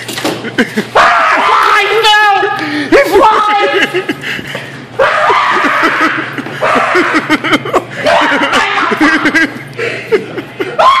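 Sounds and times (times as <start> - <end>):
people laughing: 0.4 - 1.0, 2.6 - 11.0.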